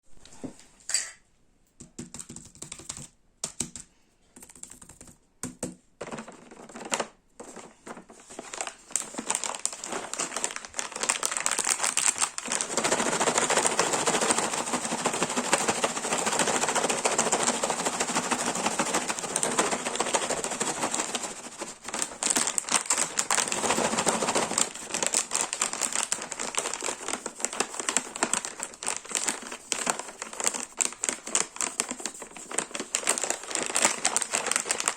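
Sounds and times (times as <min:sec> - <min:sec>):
plastic packaging crinkling: 0:06.0 - 0:34.9.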